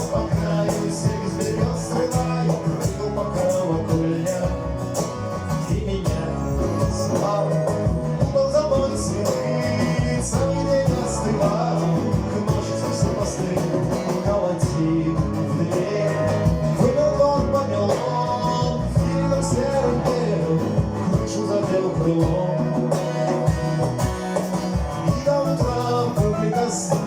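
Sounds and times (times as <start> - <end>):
live band guitar and drums: 0.0 - 27.0.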